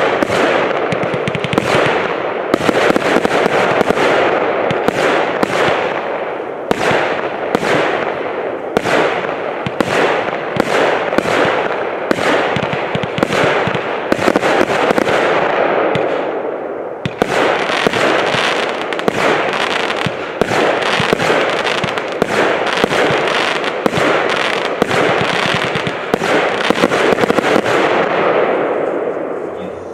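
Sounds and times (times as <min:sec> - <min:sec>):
firework crackling bursts: 0:00.0 - 0:28.7.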